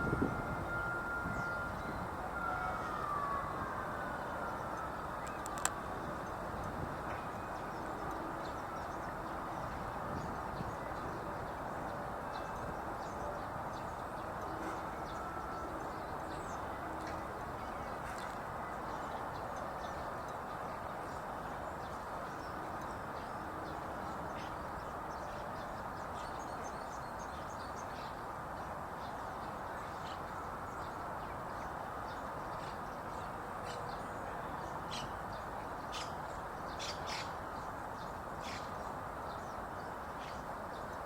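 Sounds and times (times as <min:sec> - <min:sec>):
steady background noise: 0:00.0 - 0:41.0.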